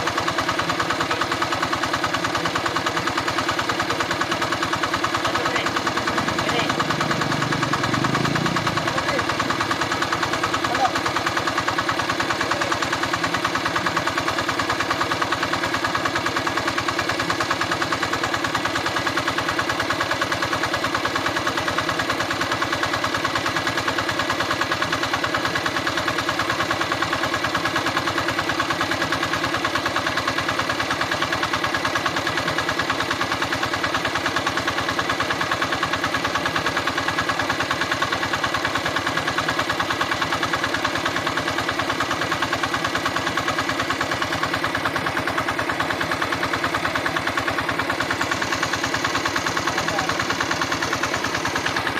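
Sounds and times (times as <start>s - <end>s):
diesel engine driving water pump: 0.0s - 51.9s.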